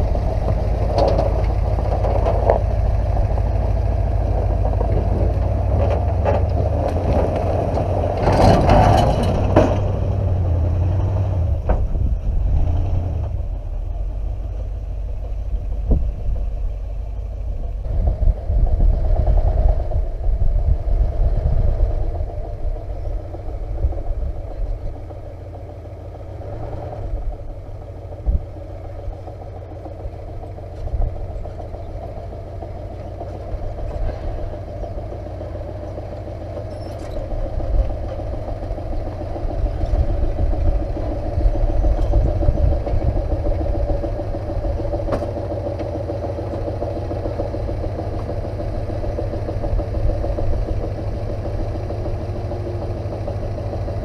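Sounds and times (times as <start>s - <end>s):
pickup truck engine running: 0.0s - 54.0s.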